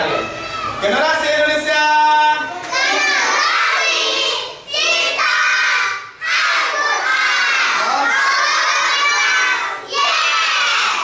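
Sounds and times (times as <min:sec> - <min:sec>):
children shouting a cheer: 0:00.0 - 0:01.0, 0:02.5 - 0:11.0.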